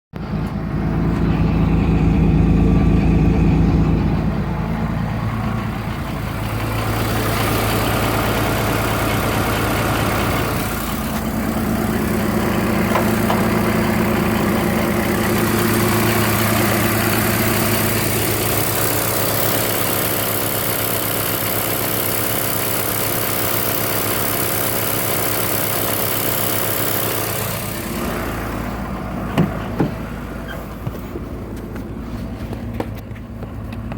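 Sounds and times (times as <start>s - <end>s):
diesel engine high idle: 0.1s - 33.9s.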